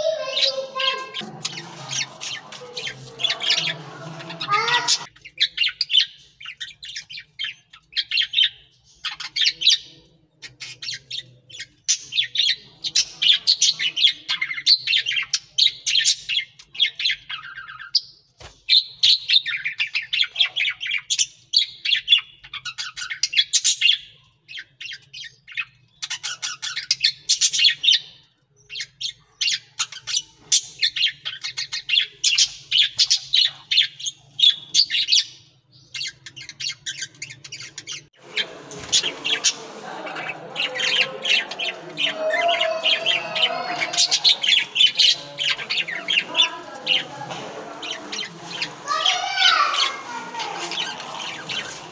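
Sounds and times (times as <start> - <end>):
budgerigars chattering and warbling: 0.0 - 51.9.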